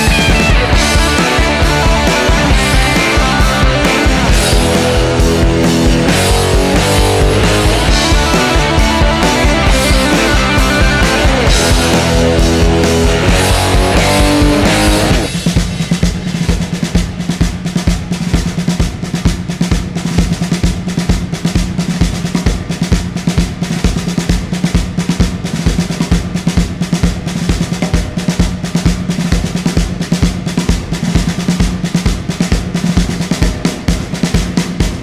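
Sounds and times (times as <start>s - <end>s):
drums playing fast beat: 0.0s - 35.0s.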